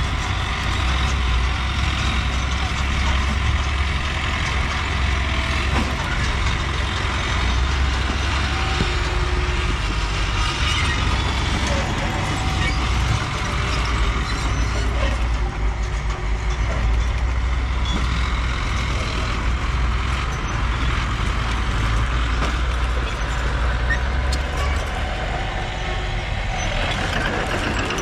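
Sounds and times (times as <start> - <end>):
bulldozer engine humming: 0.0 - 28.0.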